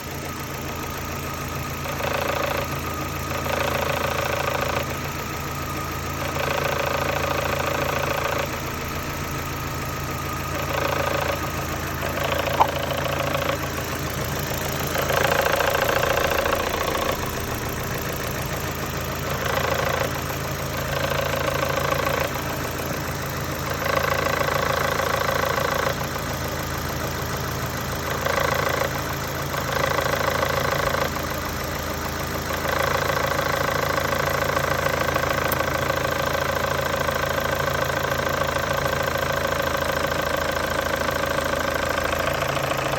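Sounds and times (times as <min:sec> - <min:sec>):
car engine knocking: 0:00.0 - 0:42.9.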